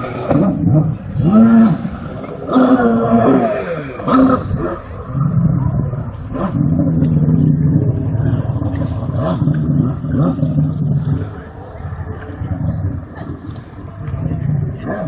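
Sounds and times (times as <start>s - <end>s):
jet ski engine: 0.0s - 15.0s.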